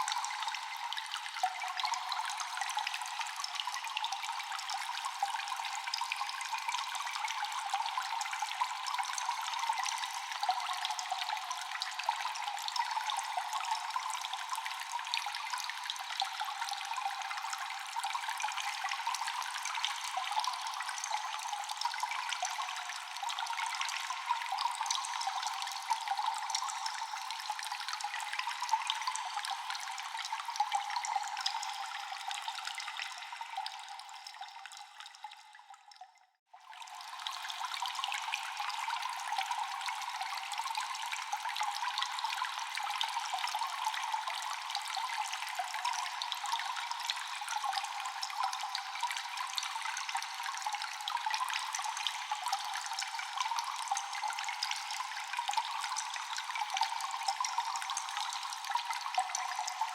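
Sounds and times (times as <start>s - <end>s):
water dripping in a cave: 0.0s - 59.9s.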